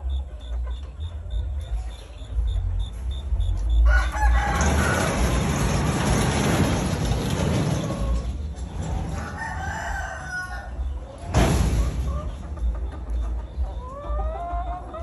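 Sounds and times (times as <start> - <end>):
chickens clucking and crowing: 0.0 - 15.0.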